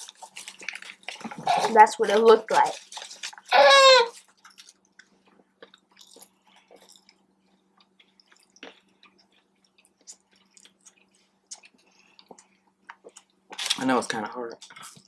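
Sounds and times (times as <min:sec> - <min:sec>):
person chewing: 0:00.0 - 0:13.8, 0:14.5 - 0:15.0
faint steady hum: 0:00.0 - 0:15.0.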